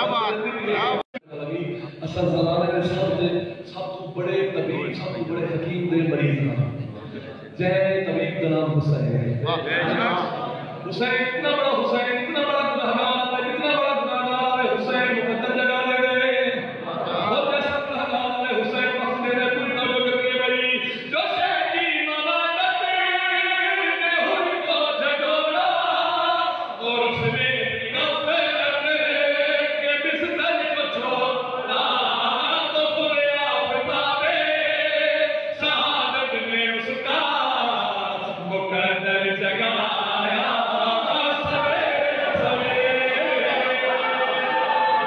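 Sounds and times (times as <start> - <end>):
man chanting into a microphone: 0.0 - 45.0.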